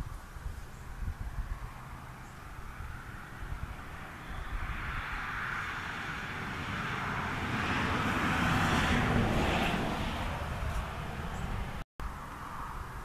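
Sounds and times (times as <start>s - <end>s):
passing vehicle engine rushing: 1.3s - 13.0s.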